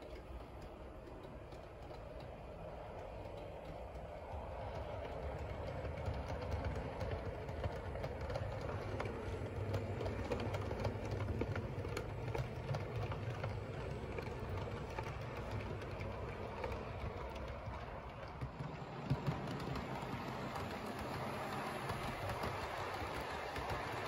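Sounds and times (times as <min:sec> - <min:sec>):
wheels clicking over rail joints: 0:00.0 - 0:24.0.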